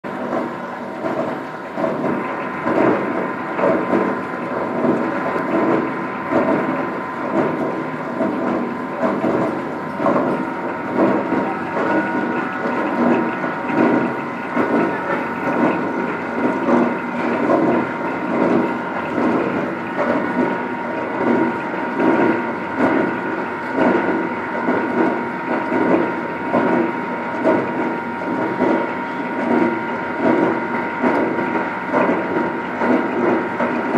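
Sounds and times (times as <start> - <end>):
milling machine whining: 0.1 - 33.9
regular machine pulse: 0.1 - 33.9.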